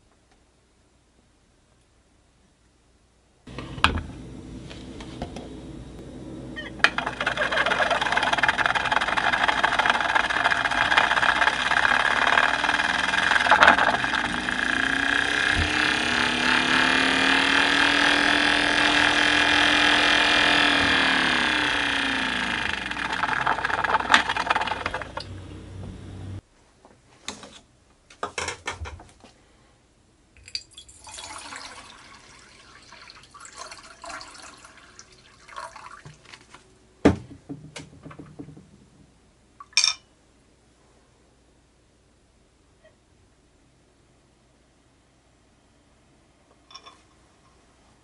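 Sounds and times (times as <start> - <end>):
fan whirring hum: 3.4 - 48.0.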